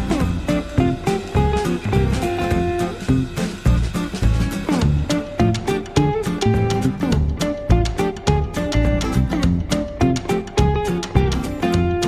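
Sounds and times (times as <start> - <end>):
upbeat guitar music: 0.0 - 12.0.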